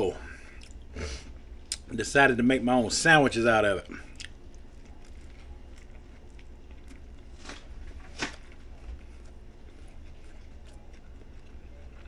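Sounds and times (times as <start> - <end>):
faint low hum: 0.0 - 12.0
person chewing sandwich: 0.3 - 1.9, 3.8 - 12.0.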